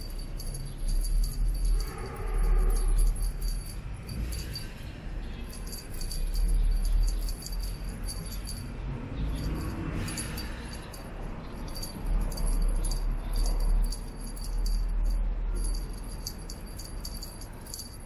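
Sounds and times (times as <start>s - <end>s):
small bell jingling: 0.0s - 18.0s.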